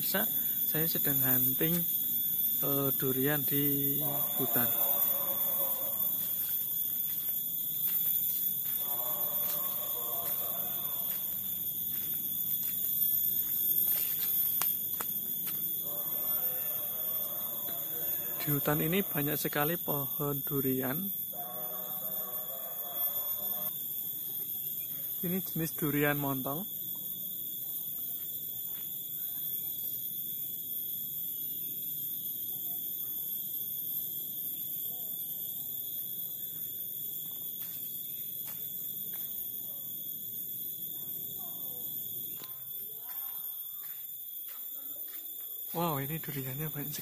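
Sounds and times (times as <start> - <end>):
insect drone: 0.0 - 47.0.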